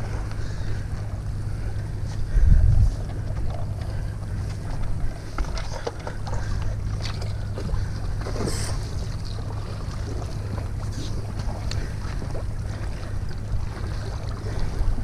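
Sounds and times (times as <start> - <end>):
low rumble: 0.0 - 15.0
water sounds: 0.0 - 15.0.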